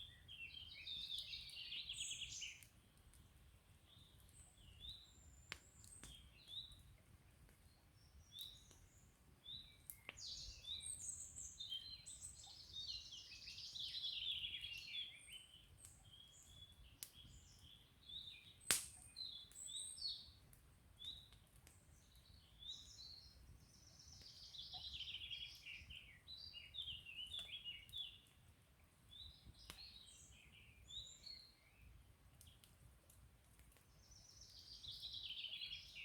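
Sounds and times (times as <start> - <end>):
small birds chirping: 0.0 - 32.8, 33.6 - 36.0
campfire crackle: 0.0 - 36.0.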